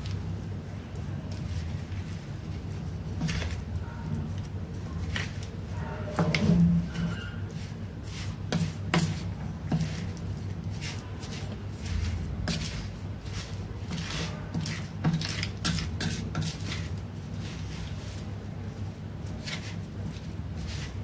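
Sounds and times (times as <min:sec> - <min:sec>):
soft shuffling: 0:00.0 - 0:21.0
steady low hum: 0:00.0 - 0:21.0.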